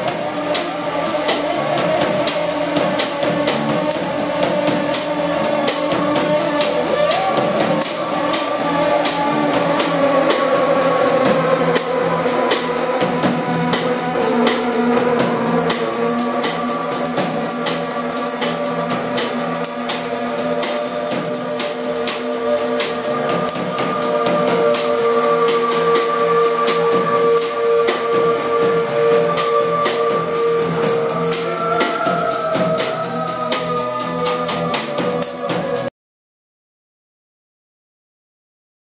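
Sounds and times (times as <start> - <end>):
high steady whine: 0.0 - 35.9.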